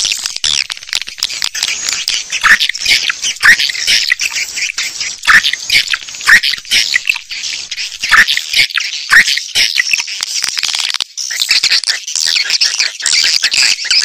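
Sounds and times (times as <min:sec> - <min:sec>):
swiftlets chirping and twittering: 0:00.0 - 0:10.0, 0:11.2 - 0:14.0.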